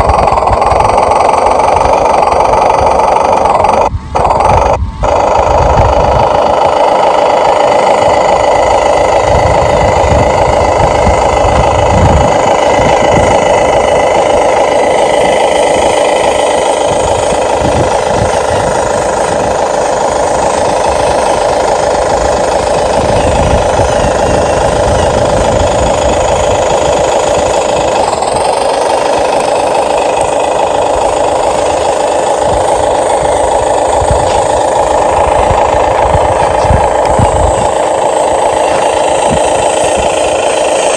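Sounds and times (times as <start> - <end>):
toy electric motors rattling whir: 0.0 - 40.9.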